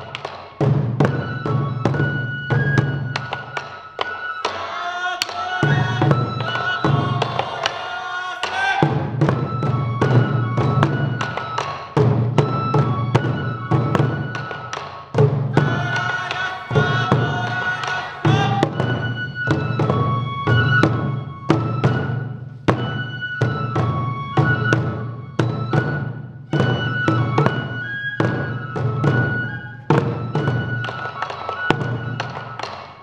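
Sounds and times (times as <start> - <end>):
bamboo flute melody: 0.0 - 33.0
taiko drums beating: 0.0 - 33.0.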